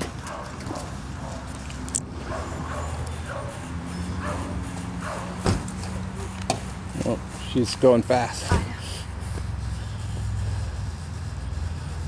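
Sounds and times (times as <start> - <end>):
steady low hum: 0.3 - 12.0.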